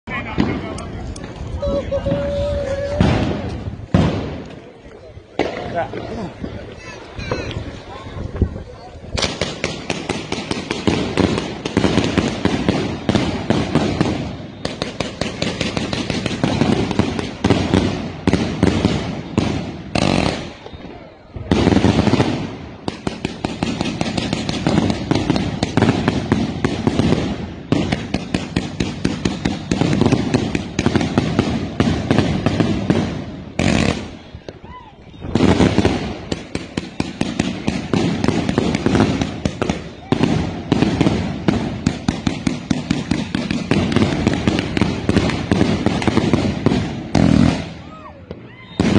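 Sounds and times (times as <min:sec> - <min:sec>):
fireworks barrage of bangs: 0:00.1 - 0:06.5, 0:09.1 - 0:48.9.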